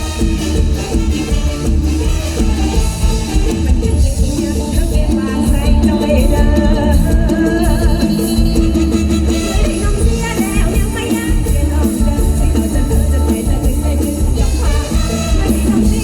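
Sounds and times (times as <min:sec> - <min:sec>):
heavy pulsing bass: 0:00.0 - 0:16.0
loud folk pop music: 0:00.0 - 0:16.0
wavering melody line: 0:00.0 - 0:16.0.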